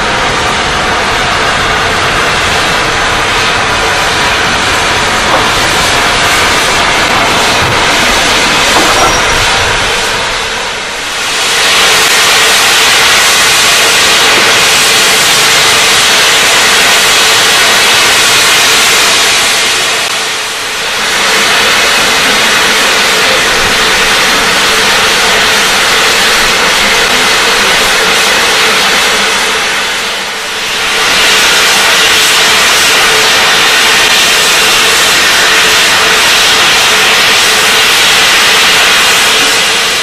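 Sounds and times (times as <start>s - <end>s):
steam locomotive hissing steam: 0.0s - 40.0s.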